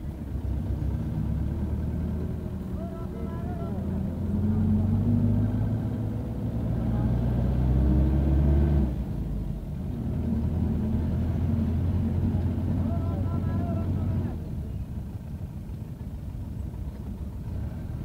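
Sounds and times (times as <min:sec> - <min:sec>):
bus engine hum: 0:00.0 - 0:18.0.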